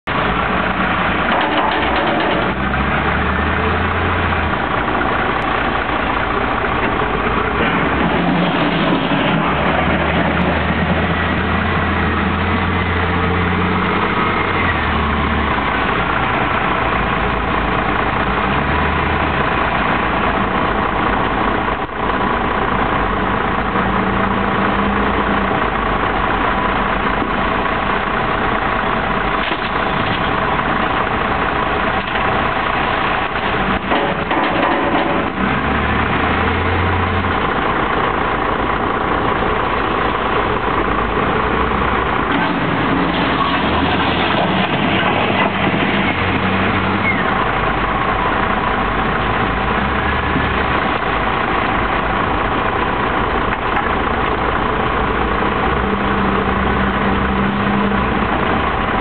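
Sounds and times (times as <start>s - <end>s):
heavy diesel machinery din: 0.0s - 59.0s
wheel loader diesel engine: 0.0s - 59.0s.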